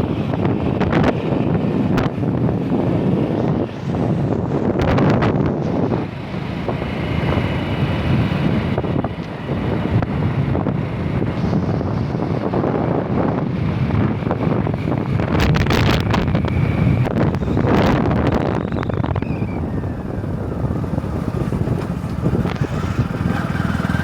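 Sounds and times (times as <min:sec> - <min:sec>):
vehicle running: 0:00.0 - 0:24.0
wind rumbling on microphone: 0:00.0 - 0:24.0.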